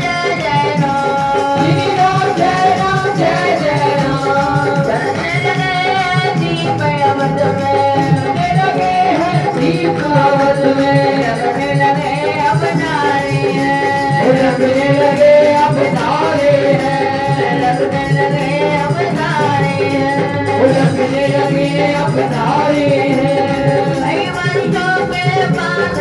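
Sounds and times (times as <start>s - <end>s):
instrumental and drum accompaniment: 0.0s - 26.0s.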